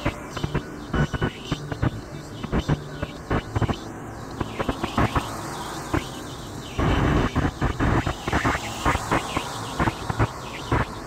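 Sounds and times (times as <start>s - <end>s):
car interior road drone: 0.0s - 11.0s.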